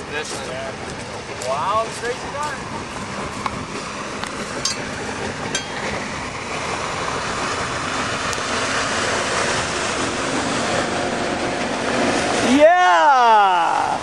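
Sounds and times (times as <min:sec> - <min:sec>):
motorboat running: 0:00.0 - 0:14.0
water rushing: 0:00.0 - 0:14.0.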